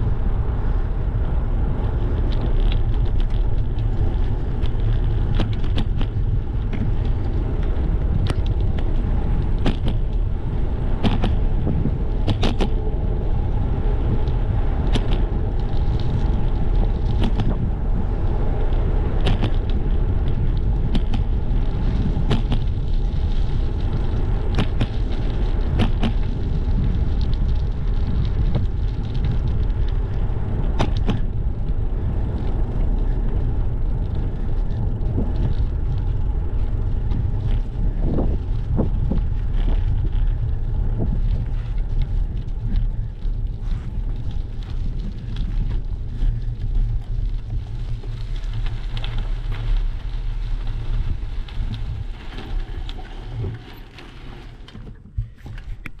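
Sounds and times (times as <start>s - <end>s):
bicycle tyres rumbling on pavement: 0.0s - 56.0s
wind on microphone: 0.0s - 56.0s.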